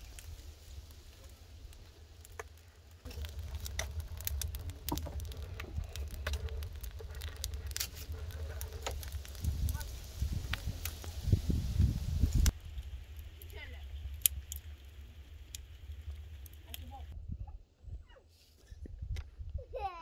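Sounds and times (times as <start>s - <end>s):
wood fire crackling and popping: 0.0s - 17.2s
low fire rumble: 0.0s - 18.0s.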